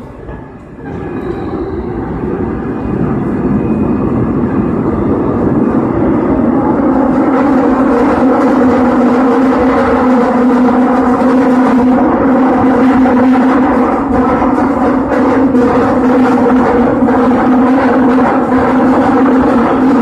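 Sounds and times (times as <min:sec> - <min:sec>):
subway train in tunnel: 0:00.0 - 0:20.0.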